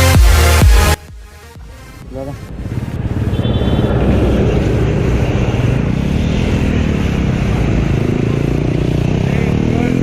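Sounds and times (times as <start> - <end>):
motorcycle engine running: 1.6 - 10.0.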